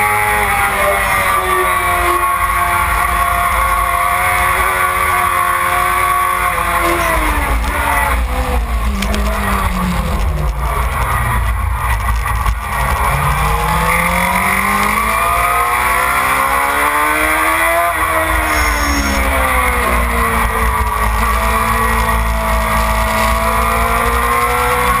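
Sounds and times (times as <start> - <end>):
motorcycle engine at speed: 0.0 - 25.0.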